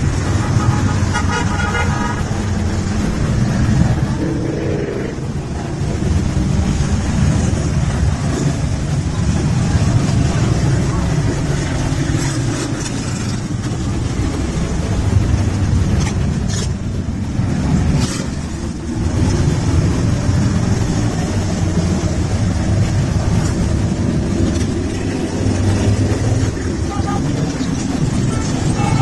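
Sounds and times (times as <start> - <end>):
motorcycle engines droning: 0.0 - 29.0.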